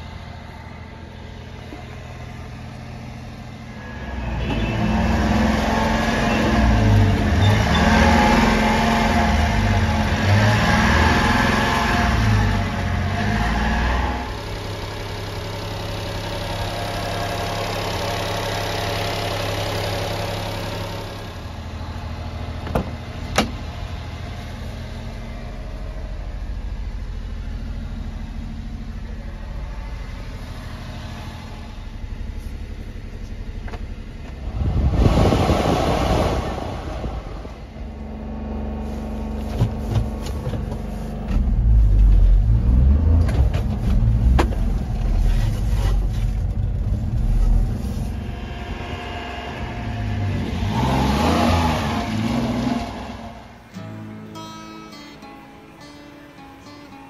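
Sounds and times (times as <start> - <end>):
small truck engine idling and revving: 0.0 - 57.0.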